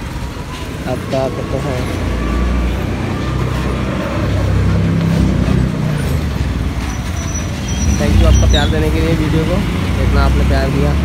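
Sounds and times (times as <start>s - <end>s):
motor vehicles rumbling: 0.0s - 11.0s.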